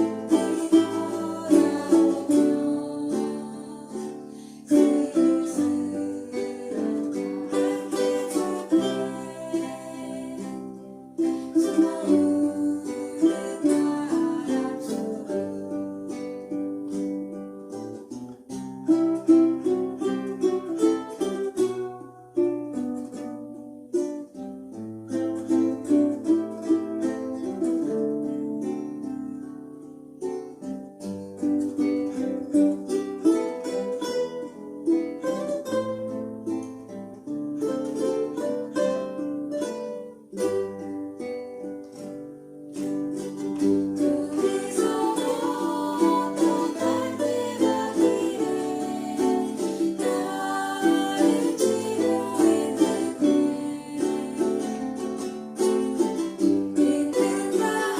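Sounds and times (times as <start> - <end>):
ukulele ensemble playing: 0.0 - 57.9.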